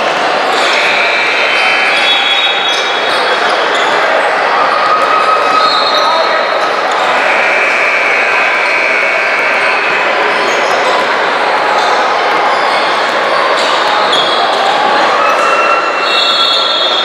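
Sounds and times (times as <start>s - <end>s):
crowd noise and chatter: 0.0s - 17.0s.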